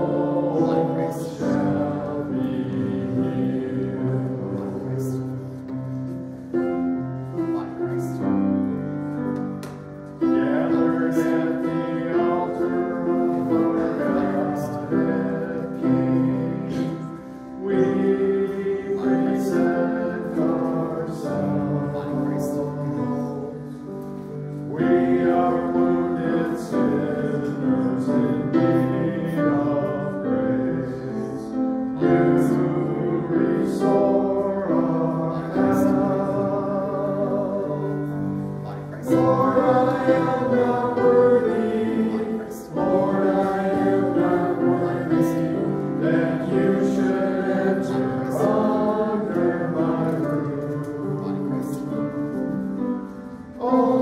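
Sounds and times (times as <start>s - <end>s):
instrumental accompaniment: 0.0s - 54.0s
voices singing a hymn: 0.0s - 54.0s.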